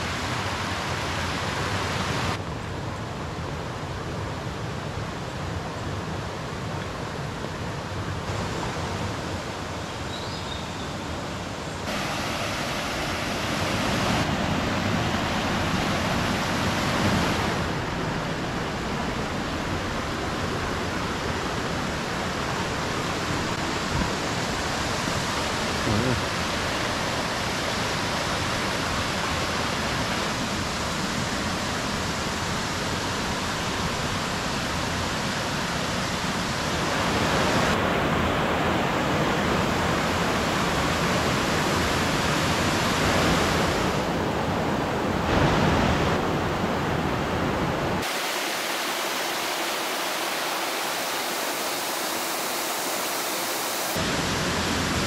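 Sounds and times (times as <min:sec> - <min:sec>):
rushing water of waterfalls: 0:00.0 - 0:55.0.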